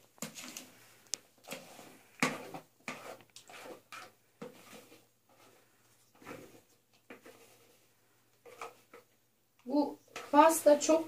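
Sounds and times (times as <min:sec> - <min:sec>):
utensil scraping batter from bowl: 0:00.2 - 0:09.2, 0:09.9 - 0:11.0.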